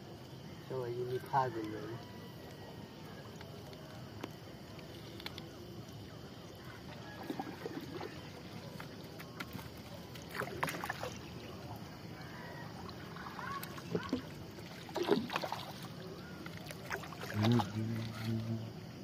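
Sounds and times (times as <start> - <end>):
river water washing: 3.3 - 18.6.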